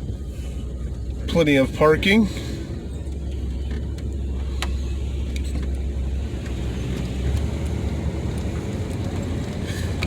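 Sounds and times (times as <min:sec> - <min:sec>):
car engine and road rumble: 0:00.0 - 0:10.0.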